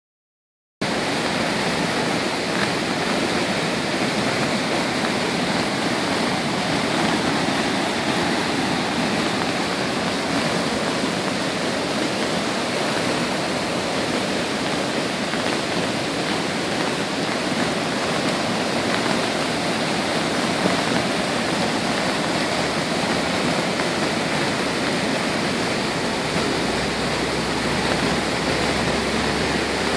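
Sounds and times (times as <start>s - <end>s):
floodwater rushing: 0.8s - 29.9s.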